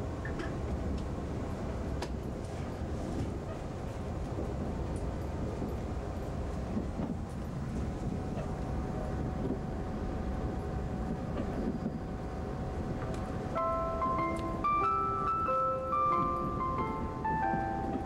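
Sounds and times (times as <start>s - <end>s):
wheels rumbling on rails: 0.0s - 18.0s.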